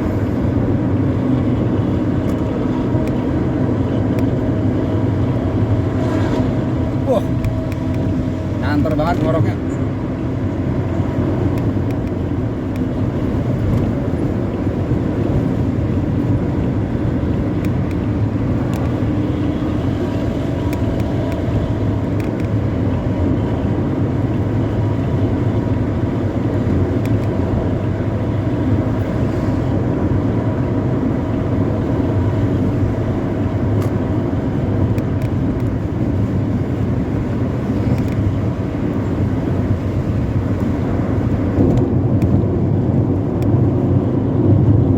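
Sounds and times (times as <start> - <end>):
bus diesel engine droning: 0.0 - 44.9.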